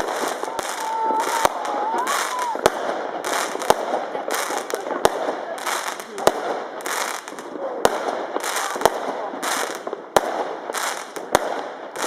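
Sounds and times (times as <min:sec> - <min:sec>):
fireworks bangs: 0:00.0 - 0:12.0
fireworks hissing and crackling: 0:00.0 - 0:12.0.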